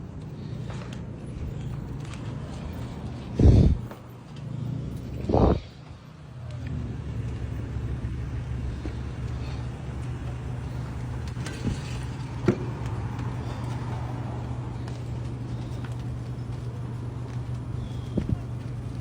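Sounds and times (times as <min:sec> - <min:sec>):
vehicle rumbling on the move: 0:00.0 - 0:19.0.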